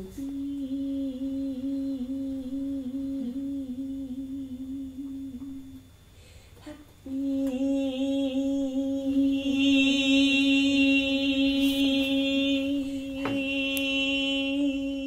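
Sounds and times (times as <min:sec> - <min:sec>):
woman humming a held note: 0:00.0 - 0:05.9, 0:06.6 - 0:15.0.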